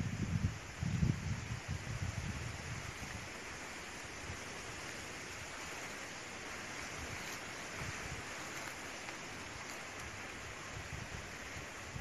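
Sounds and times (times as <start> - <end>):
wind rumble on microphone: 0.0 - 12.0
wind through trees: 0.0 - 12.0.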